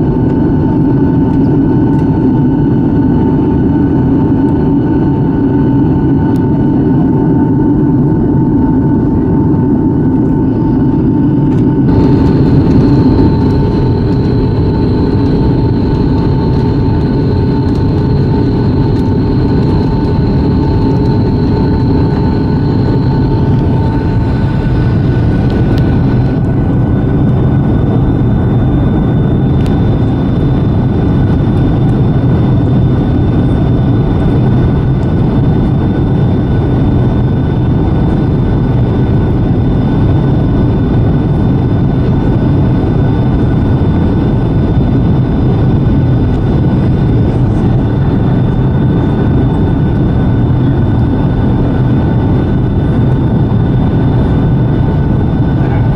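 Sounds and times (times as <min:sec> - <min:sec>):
high engine whine: 0:00.0 - 0:55.9
jet engines roaring: 0:00.0 - 0:55.9.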